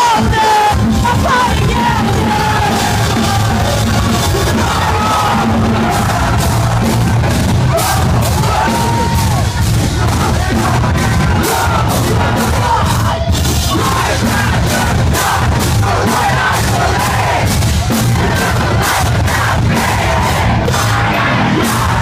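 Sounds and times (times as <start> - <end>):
drums pounding: 0.0 - 22.0
live metal band playing: 0.0 - 22.0.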